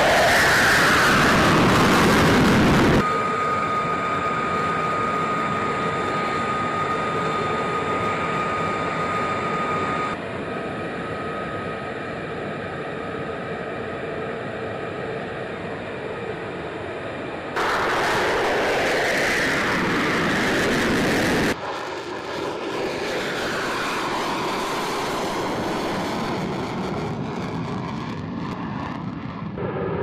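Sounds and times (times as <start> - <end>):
jet engine whine and rush: 0.0 - 30.0.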